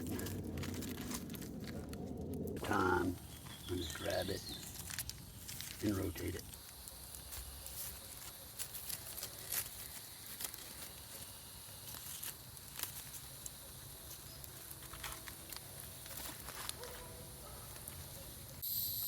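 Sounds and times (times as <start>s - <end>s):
campfire crackling: 0.0s - 18.6s.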